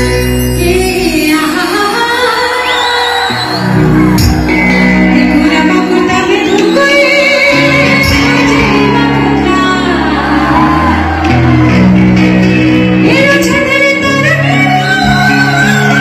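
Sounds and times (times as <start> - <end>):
woman singing into a microphone: 0.0 - 11.0, 13.0 - 16.0
live band music: 0.0 - 16.0
crowd shouting and whooping: 1.7 - 16.0.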